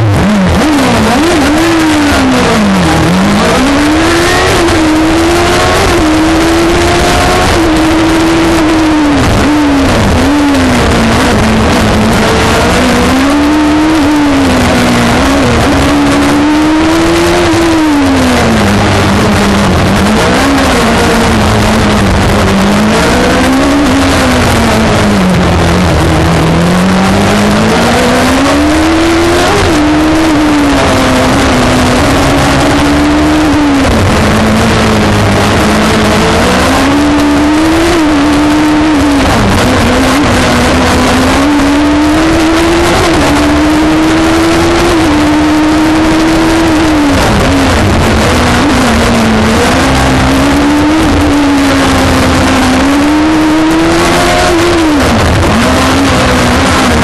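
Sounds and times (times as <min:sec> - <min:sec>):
racing car engine accelerating: 0:00.0 - 0:57.0.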